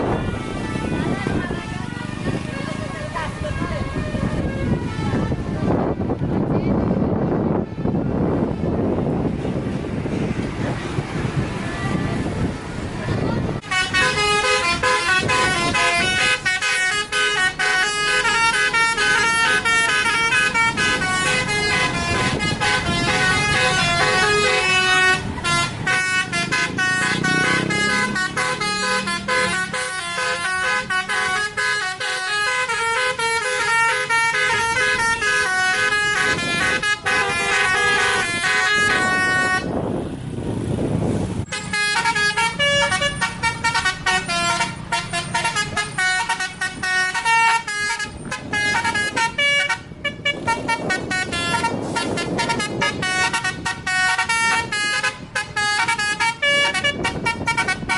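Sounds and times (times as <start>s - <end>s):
bus horn playing a melody: 0.0s - 5.9s, 13.6s - 39.9s, 41.5s - 57.9s.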